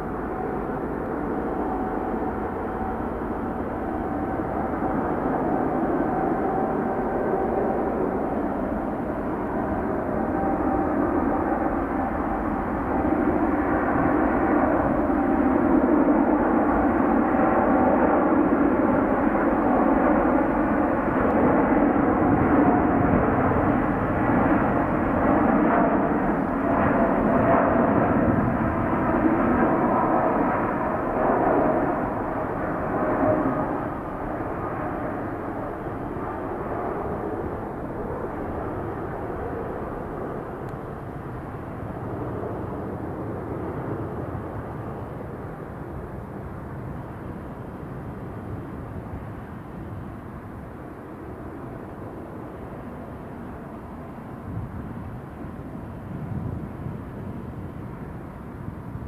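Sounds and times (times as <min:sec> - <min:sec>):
jet engines rumbling at takeoff: 0:00.0 - 0:59.0.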